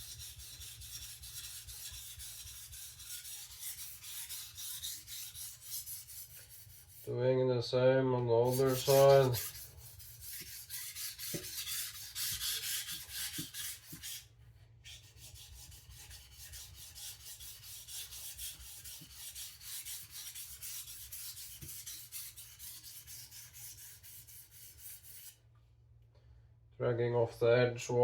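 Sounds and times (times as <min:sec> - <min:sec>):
knife scraping on whetstone: 0:00.0 - 0:07.1, 0:08.4 - 0:14.3, 0:14.9 - 0:25.4.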